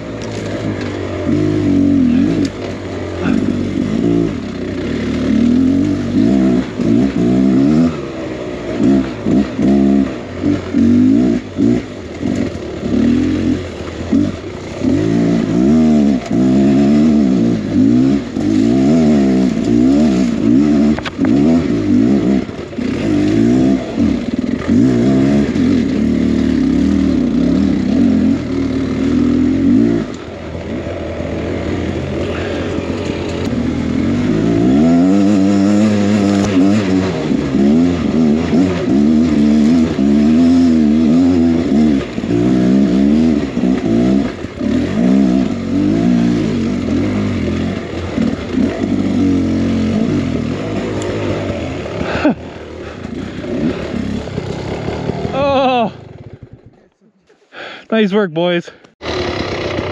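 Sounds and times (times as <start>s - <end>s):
dirt bike engine revving: 0.0s - 56.9s, 57.6s - 59.9s.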